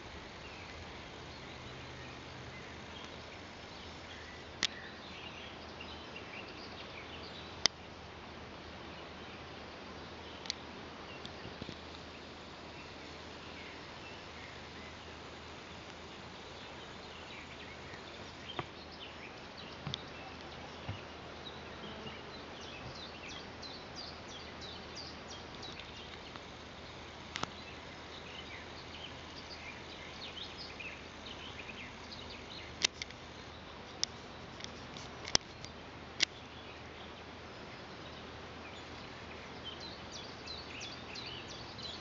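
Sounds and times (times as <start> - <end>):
small birds chirping: 0.0 - 8.0, 8.7 - 42.0
steady low hiss: 0.0 - 42.0.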